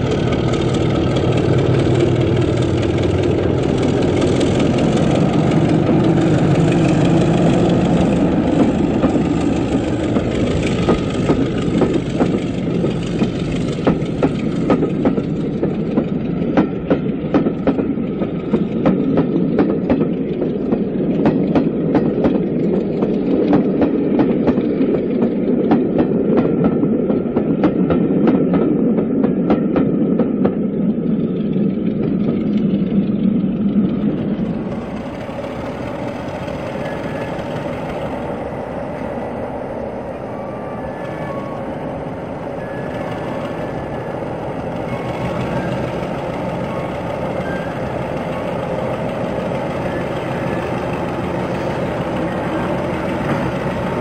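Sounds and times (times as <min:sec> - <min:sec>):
train wheels clicking over joints: 0:00.0 - 0:40.2, 0:41.0 - 0:54.0
diesel locomotive engine running: 0:00.0 - 0:54.0.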